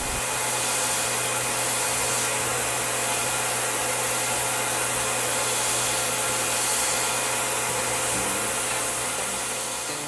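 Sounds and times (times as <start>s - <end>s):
cutting hiss: 0.0s - 10.0s
milling machine spindle whine: 0.0s - 10.0s.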